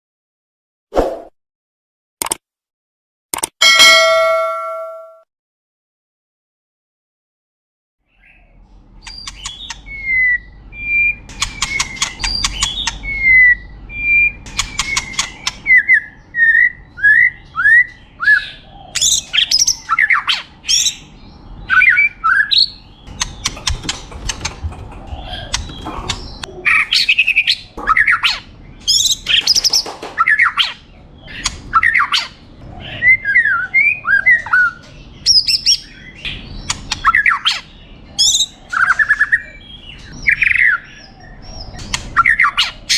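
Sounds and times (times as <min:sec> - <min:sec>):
bird singing varied song: 0:08.0 - 0:42.9.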